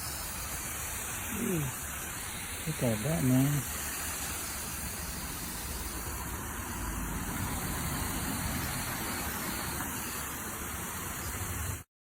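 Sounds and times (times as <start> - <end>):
pressure washer spraying water: 0.0 - 11.9.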